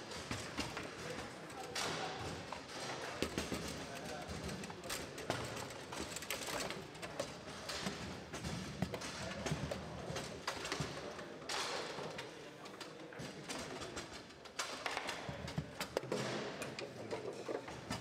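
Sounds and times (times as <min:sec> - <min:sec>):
foosball rods rattling: 0:00.1 - 0:11.9, 0:13.4 - 0:18.0.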